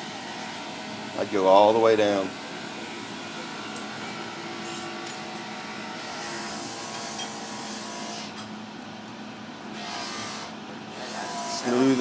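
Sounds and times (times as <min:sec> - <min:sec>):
fume extractor fan whirring: 0:00.0 - 0:12.0.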